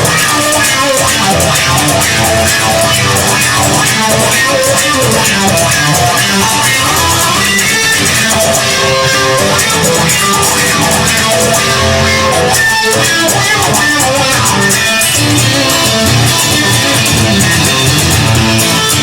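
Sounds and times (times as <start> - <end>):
instrumental band music: 0.0 - 19.0.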